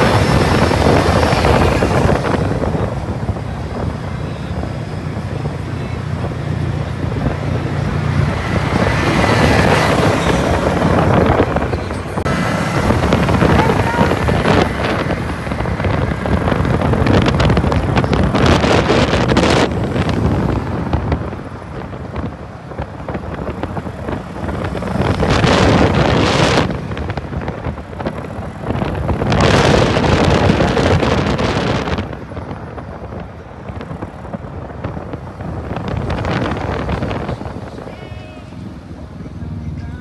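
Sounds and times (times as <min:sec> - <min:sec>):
go-kart engine: 0:00.0 - 0:39.8
tyre road noise: 0:00.0 - 0:40.0
wind buffeting microphone: 0:00.0 - 0:40.0.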